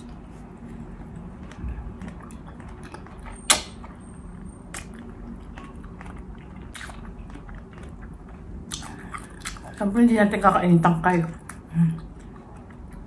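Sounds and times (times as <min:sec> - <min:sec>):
person chewing food: 0:00.0 - 0:09.8, 0:11.3 - 0:13.0.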